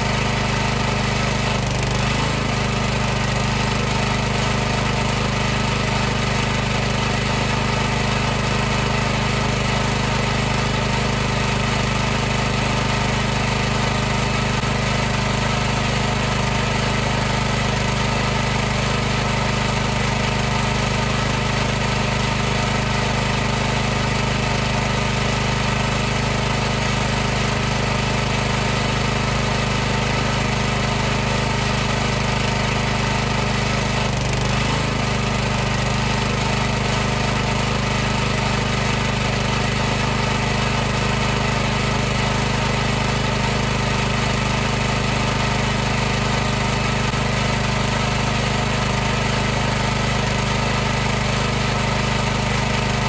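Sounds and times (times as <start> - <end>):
pressure washer humming: 0.0 - 53.0.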